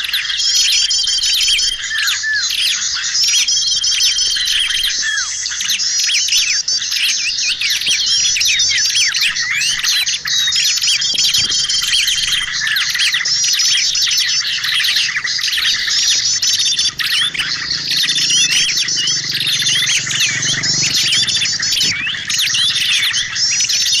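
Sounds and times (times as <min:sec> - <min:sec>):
many small birds calling: 0:00.0 - 0:24.0.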